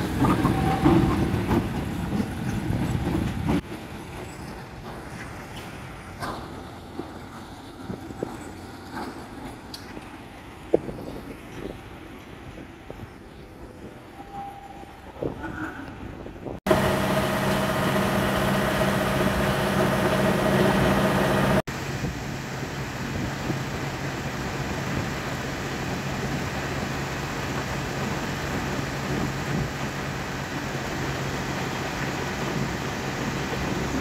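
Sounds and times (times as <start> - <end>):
diesel locomotive engine hum: 0.0 - 34.0.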